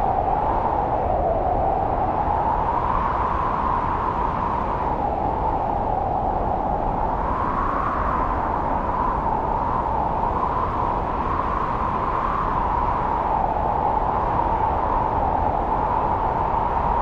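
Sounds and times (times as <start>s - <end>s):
wind blowing through trees: 0.0s - 17.0s.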